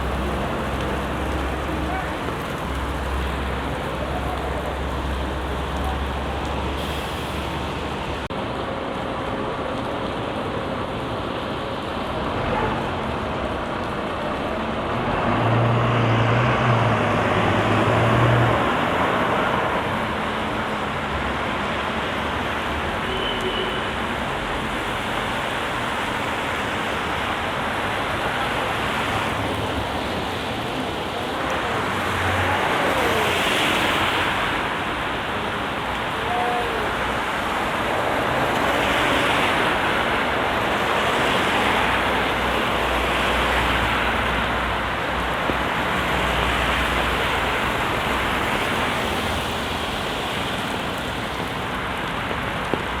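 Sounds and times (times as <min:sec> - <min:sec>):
tyre hiss on wet road: 0:00.0 - 0:08.3, 0:16.4 - 0:53.0
rain: 0:00.0 - 0:53.0.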